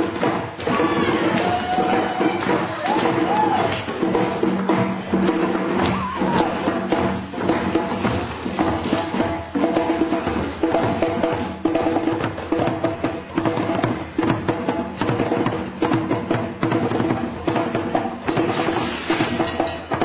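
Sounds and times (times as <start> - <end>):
quick crisp percussion hits: 0.0 - 20.0.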